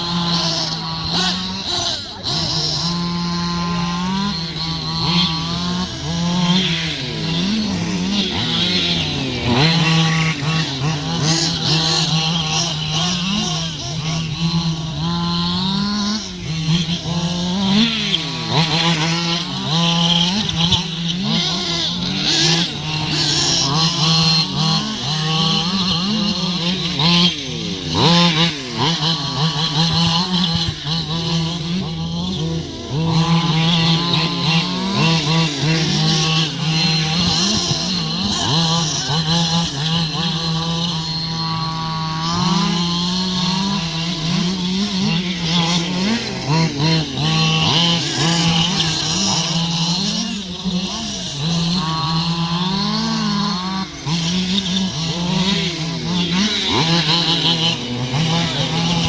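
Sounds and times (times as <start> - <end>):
model car motors revving: 0.0 - 59.0
steady droning note: 0.0 - 59.0.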